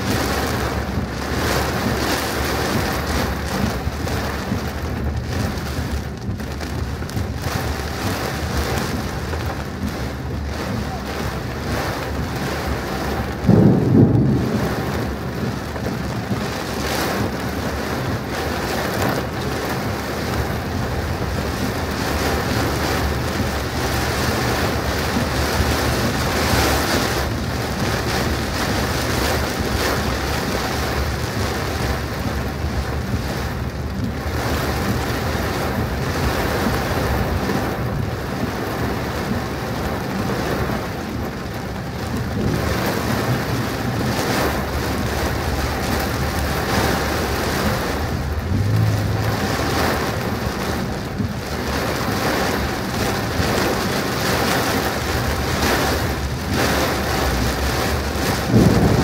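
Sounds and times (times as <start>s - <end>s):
heavy rain on a car: 0.0s - 59.0s.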